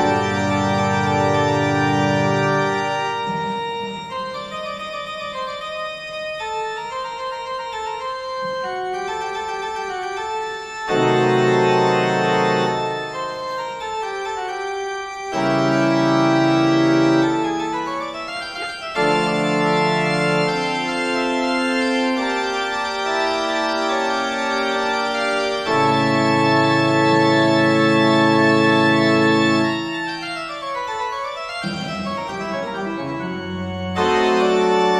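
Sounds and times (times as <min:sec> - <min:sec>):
organ music: 0:00.0 - 0:34.9.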